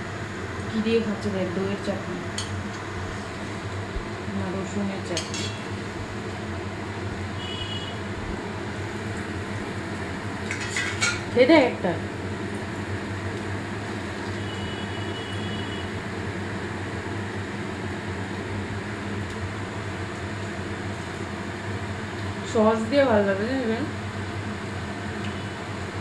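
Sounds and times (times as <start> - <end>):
food deep-frying in hot oil: 0.0 - 26.0.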